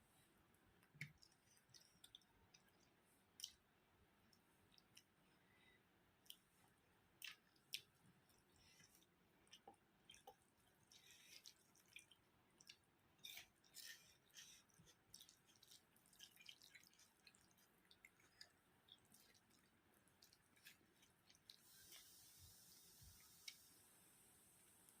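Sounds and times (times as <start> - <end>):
wet chewing and smacking: 0.8 - 5.2, 6.2 - 22.2.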